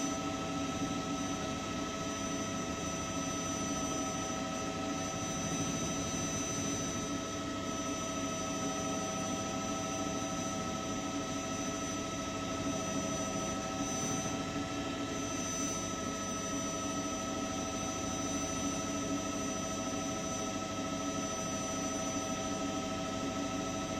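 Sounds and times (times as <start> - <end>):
helicopter turbine and rotor: 0.0 - 23.9.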